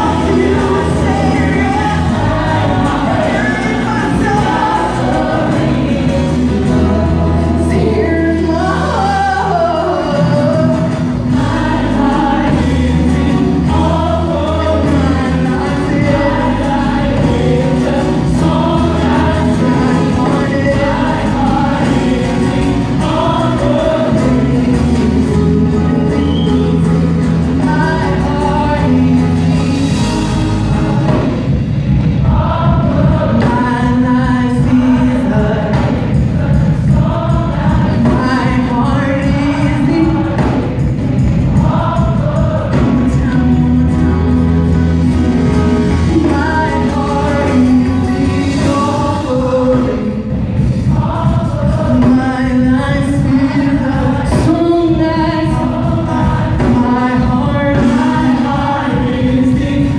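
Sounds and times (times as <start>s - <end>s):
band playing: 0.0s - 59.9s
group singing gospel song: 0.0s - 59.9s.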